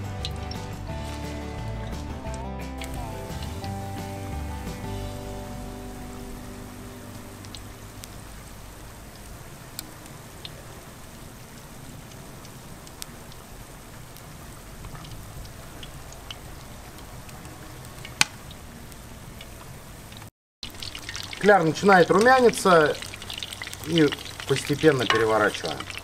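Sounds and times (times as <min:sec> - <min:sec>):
pork deep-frying in oil: 0:00.0 - 0:26.0.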